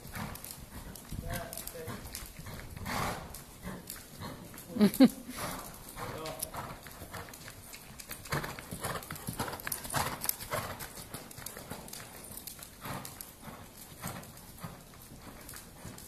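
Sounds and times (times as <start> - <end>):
horse hoofbeats on sand: 0.0 - 16.0.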